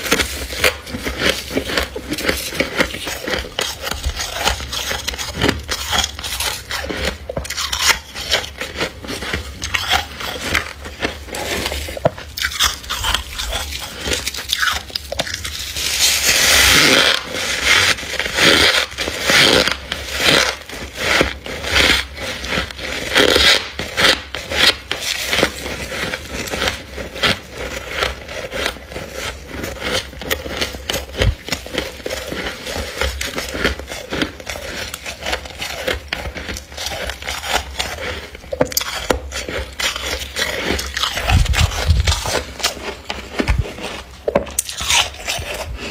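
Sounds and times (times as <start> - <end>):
frost being scraped and crunched: 0.0 - 45.9.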